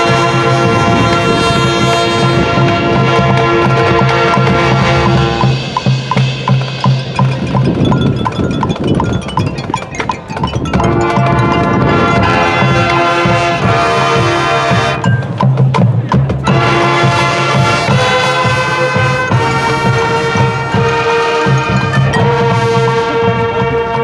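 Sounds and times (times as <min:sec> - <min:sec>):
drumline beat: 0:00.0 - 0:24.0
marching band chords: 0:00.0 - 0:24.0.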